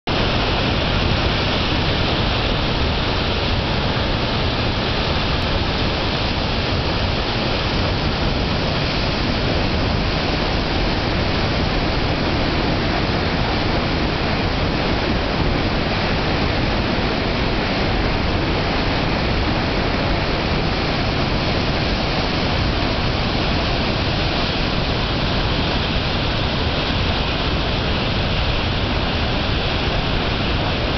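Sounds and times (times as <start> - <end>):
waterfall and rapids rushing: 0.1 - 30.9.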